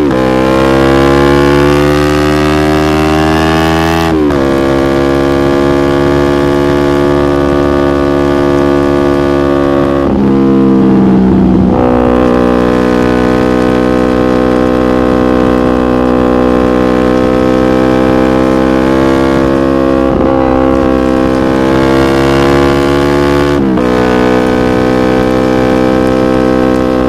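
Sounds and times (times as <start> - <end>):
motorcycle engine revving steadily: 0.0 - 27.0.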